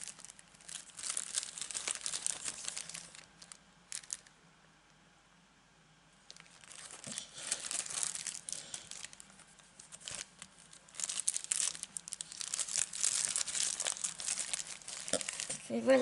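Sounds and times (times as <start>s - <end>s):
plastic packaging crinkling: 0.0s - 4.3s, 6.2s - 16.0s.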